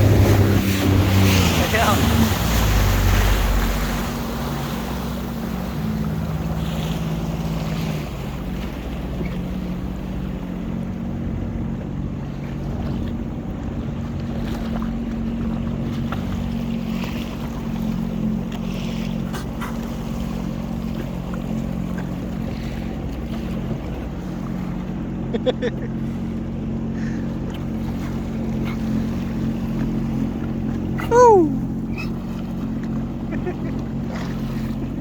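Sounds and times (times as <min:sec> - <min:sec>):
jet ski engine: 0:00.0 - 0:35.0
water noise: 0:00.0 - 0:35.0.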